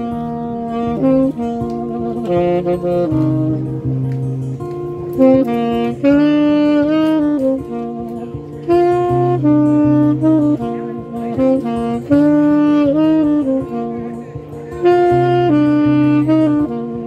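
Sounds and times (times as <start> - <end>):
low steady accompaniment: 0.0 - 17.0
saxophone slow melody: 0.0 - 17.0.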